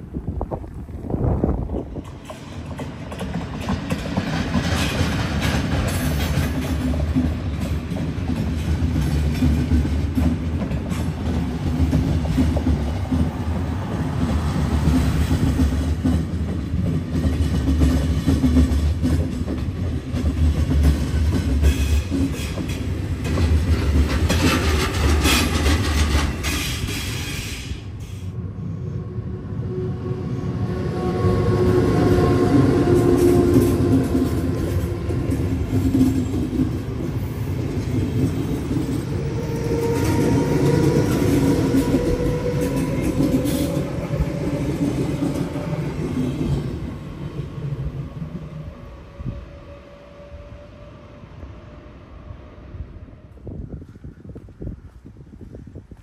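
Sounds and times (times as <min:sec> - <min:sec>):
train rumbling past with wheel clatter: 0:00.0 - 0:56.0.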